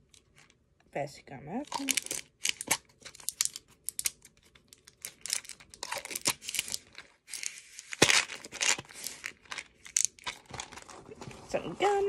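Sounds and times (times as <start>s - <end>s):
paper crinkling and rustling: 1.8s - 12.0s.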